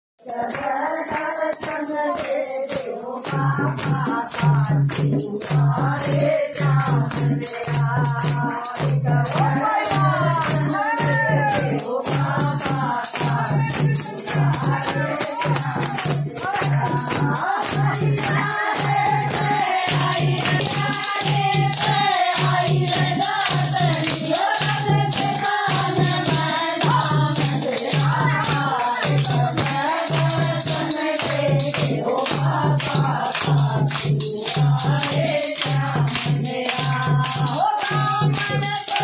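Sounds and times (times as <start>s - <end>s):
group singing devotional song: 0.2s - 39.0s
hand clapping: 0.3s - 39.0s.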